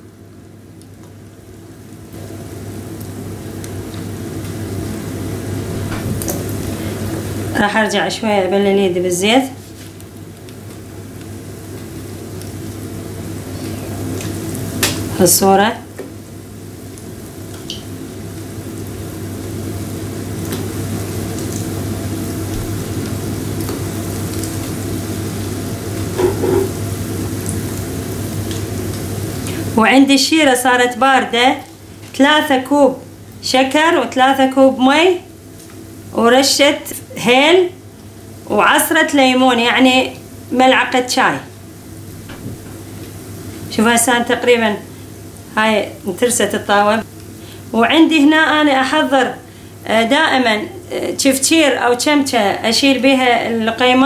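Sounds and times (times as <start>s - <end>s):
oil sizzling: 0.0s - 54.0s.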